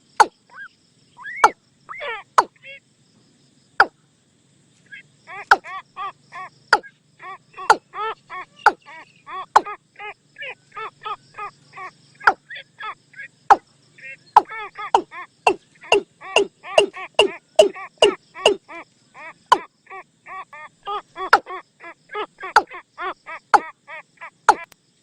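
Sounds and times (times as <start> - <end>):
bird calling: 0.0 - 2.8, 4.8 - 24.7.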